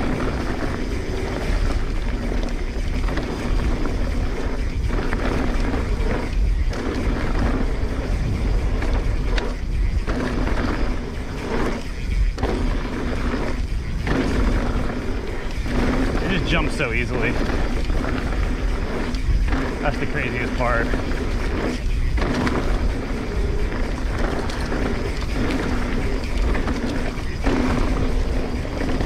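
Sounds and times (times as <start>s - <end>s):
bike tyres rumbling on dirt trail: 0.0s - 29.0s
wind buffeting microphone: 0.0s - 29.0s.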